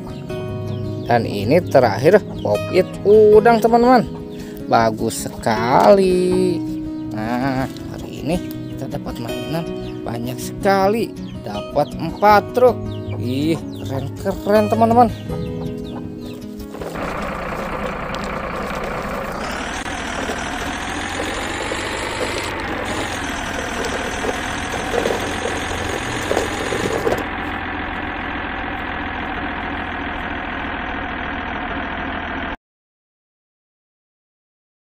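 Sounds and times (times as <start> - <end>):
truck engine idling: 0.1 - 32.6.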